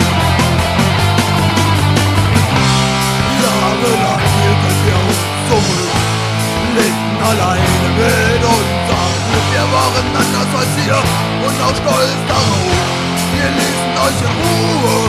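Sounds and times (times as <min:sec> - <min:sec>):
electric guitars: 0:00.0 - 0:15.0
steady drum beat: 0:00.0 - 0:15.0.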